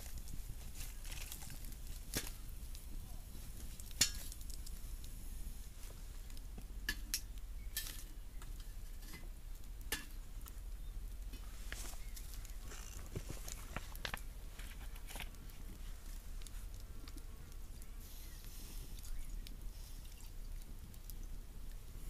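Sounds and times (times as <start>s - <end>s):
faint low background hum: 0.0s - 22.0s.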